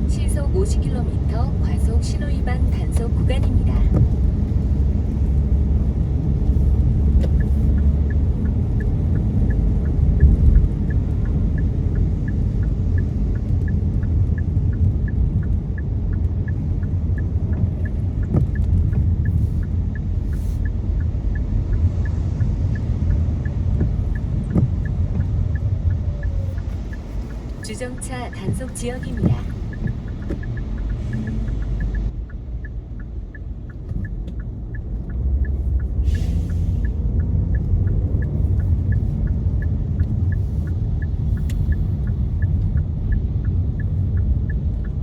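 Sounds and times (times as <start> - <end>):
car driving on wet road: 0.0 - 45.0
turn signal ticking: 0.0 - 45.0.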